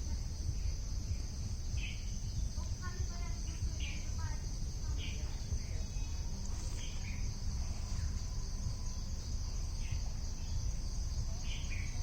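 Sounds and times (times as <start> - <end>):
insect chorus trilling: 0.0 - 12.0
low rumble: 0.0 - 12.0.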